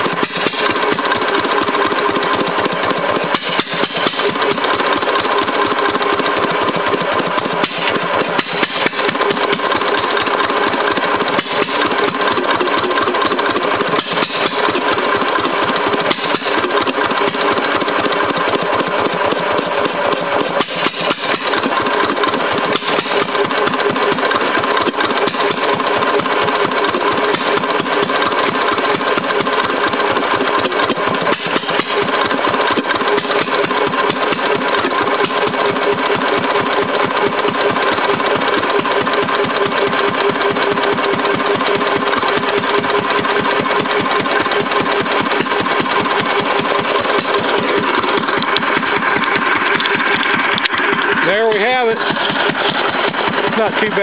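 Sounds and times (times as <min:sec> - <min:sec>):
stationary engine running unmuffled: 0:00.0 - 0:54.0.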